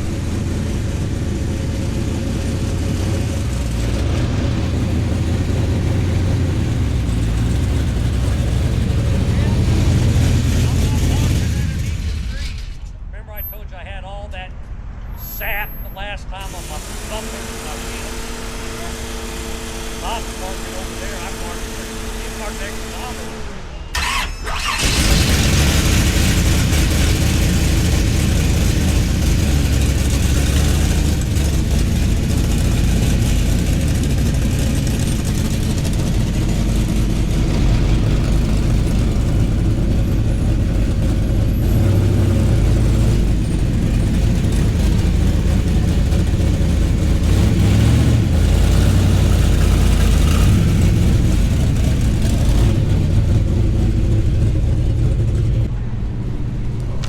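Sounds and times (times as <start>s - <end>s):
car engine idling: 0.0s - 13.3s, 15.5s - 55.7s.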